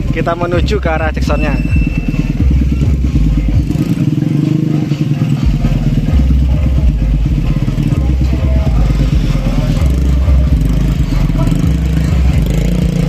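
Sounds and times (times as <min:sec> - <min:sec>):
deep bass from subwoofers: 0:00.0 - 0:13.0
motorcycle engines running: 0:00.0 - 0:13.0.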